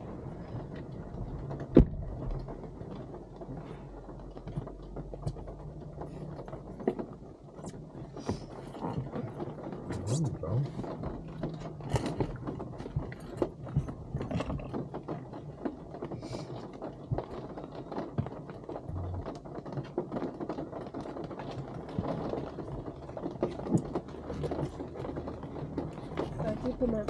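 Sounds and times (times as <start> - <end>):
rain tapping on car roof: 0.0 - 27.0.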